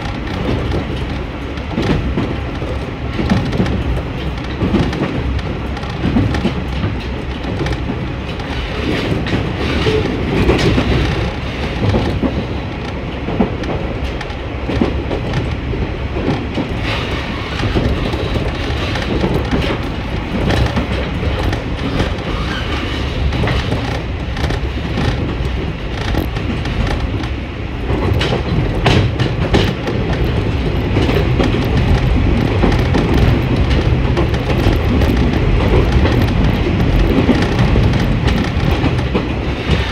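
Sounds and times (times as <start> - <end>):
clickety-clack of rail joints: 0.0 - 39.9
railcar engine and wheels rumble: 0.0 - 39.9.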